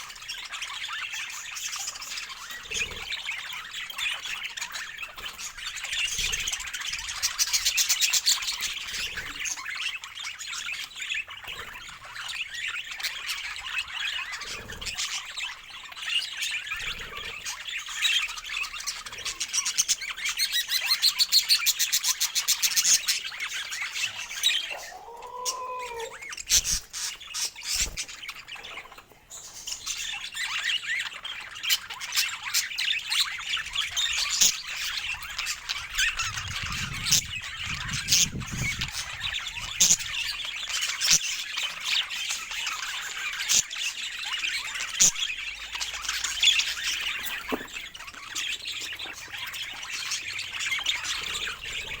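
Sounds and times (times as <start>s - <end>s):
budgerigars chattering: 0.0s - 52.0s.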